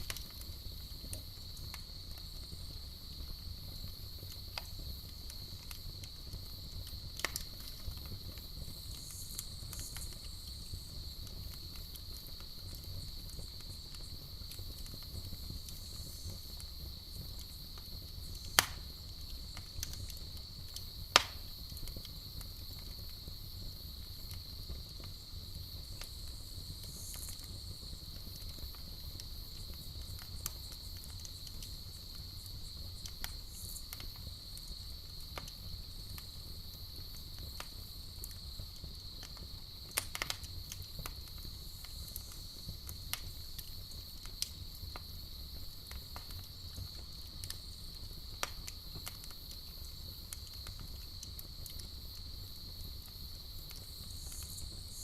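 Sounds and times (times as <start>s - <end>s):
campfire crackling: 0.0s - 55.0s
crickets trilling: 0.0s - 55.0s
sharp pops of fire: 0.0s - 55.0s.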